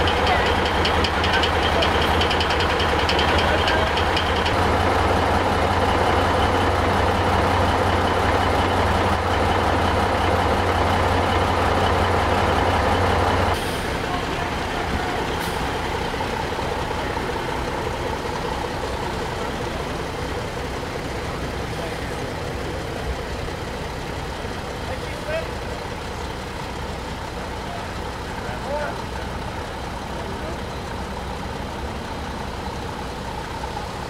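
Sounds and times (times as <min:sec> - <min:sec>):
diesel engine idling: 0:00.0 - 0:34.0
distant vehicle: 0:00.0 - 0:34.0.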